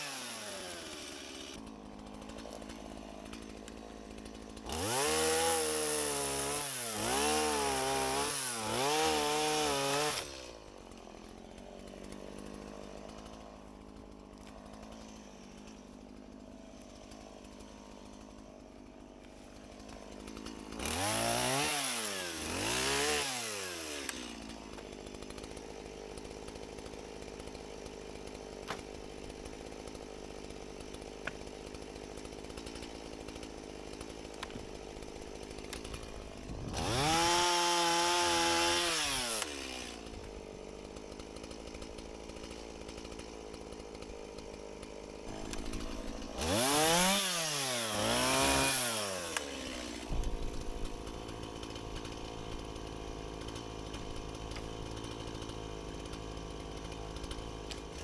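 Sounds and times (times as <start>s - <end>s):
chainsaw cutting through branch: 0.0s - 58.0s
chainsaw idling and revving: 0.0s - 58.0s.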